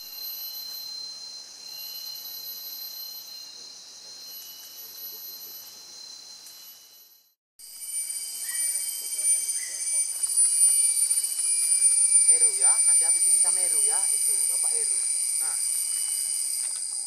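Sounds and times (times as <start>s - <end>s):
insect chirping tones: 0.0s - 17.0s
insects buzzing: 0.0s - 17.0s.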